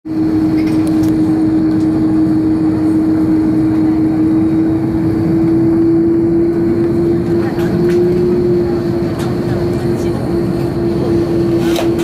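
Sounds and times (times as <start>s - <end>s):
jet engines running at low thrust: 0.1s - 12.0s.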